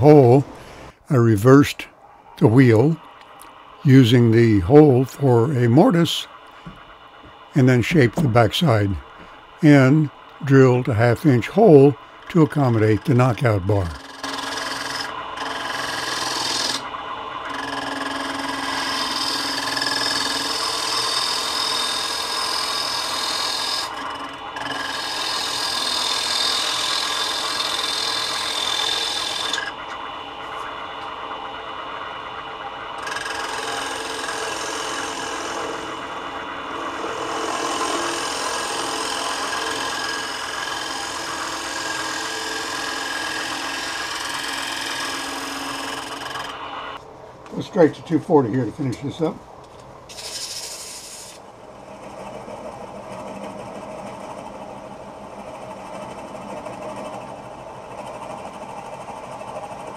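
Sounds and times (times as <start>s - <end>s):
lathe motor hum: 2.3s - 47.6s, 49.2s - 59.9s
gouge scraping spinning wood: 2.6s - 47.0s, 49.8s - 59.9s.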